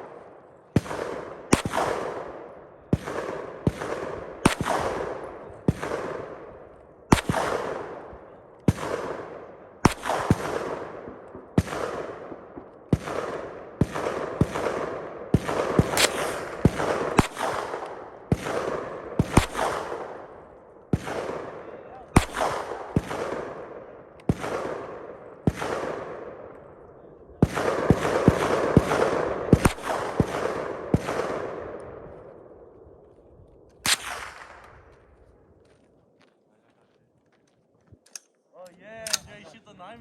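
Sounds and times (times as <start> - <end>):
gunshots with long echo: 0.0 - 35.6.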